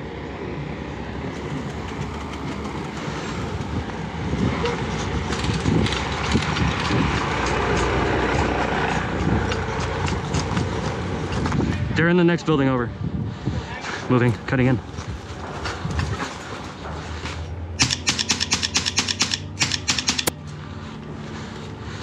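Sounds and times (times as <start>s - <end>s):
steady rushing noise: 0.0s - 18.8s.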